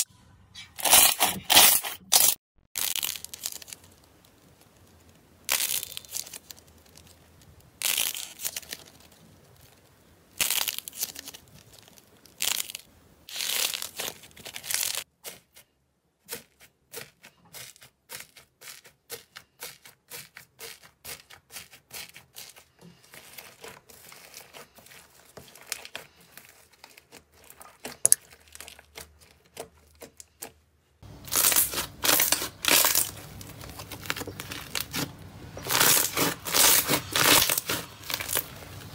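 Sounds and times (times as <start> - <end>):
slime squishing and crackling: 2.8 - 15.6, 16.2 - 38.9.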